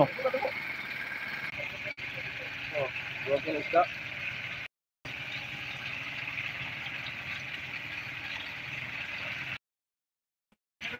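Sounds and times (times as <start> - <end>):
engine idling with low rumble: 0.0 - 9.6.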